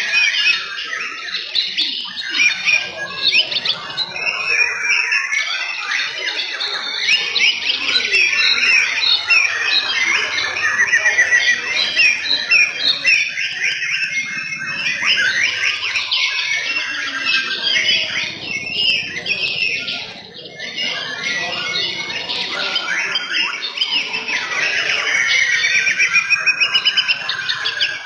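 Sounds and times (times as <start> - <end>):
birds whistling songs: 0.0 - 28.0.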